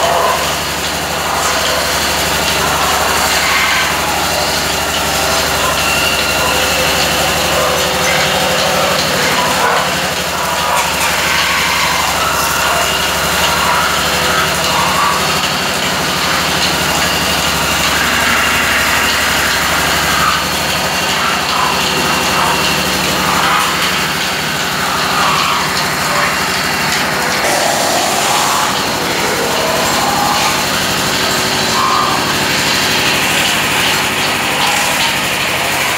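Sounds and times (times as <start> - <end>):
high whine: 0.0 - 35.9
lathe motor hum: 0.0 - 35.9.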